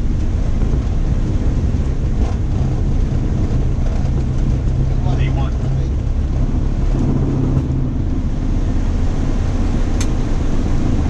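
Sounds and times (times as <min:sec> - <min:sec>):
jet engines and rushing air: 0:00.0 - 0:11.0
low hum: 0:00.0 - 0:11.0.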